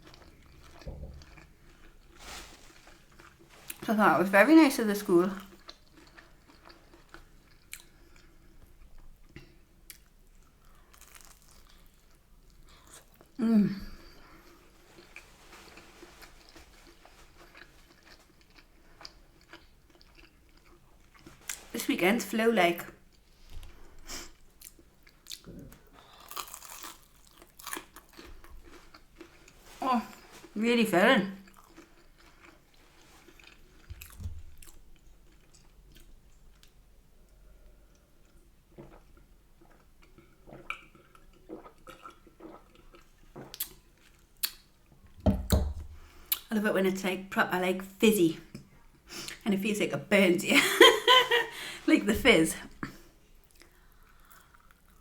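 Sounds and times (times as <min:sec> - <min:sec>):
faint chewing and mouth clicks: 0:00.0 - 0:03.9, 0:05.4 - 0:13.4, 0:14.0 - 0:21.8, 0:22.9 - 0:30.6, 0:31.4 - 0:46.5, 0:52.8 - 0:55.0.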